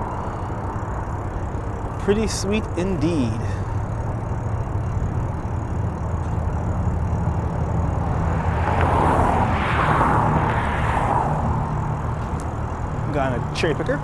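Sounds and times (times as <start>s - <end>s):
vehicle low drone: 0.0s - 14.0s.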